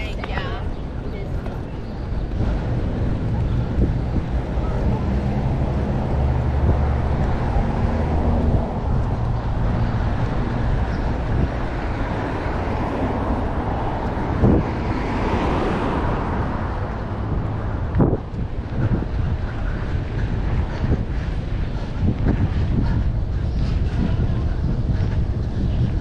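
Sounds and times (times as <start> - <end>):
city street traffic: 0.0 - 26.0
wind rumbling on microphone: 0.0 - 26.0.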